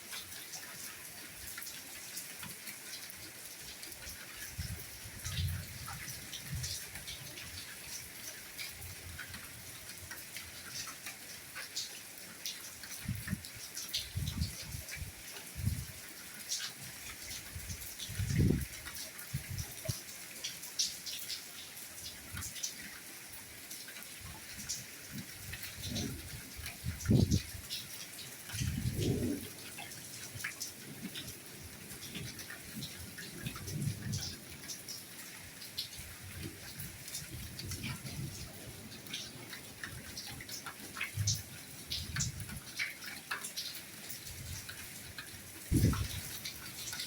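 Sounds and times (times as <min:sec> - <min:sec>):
soft rain hissing: 0:00.0 - 0:47.0.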